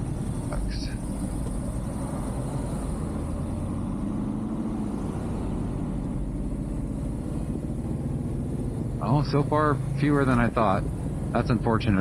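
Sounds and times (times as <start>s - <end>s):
motorcycle engine rumbling: 0.0s - 11.9s.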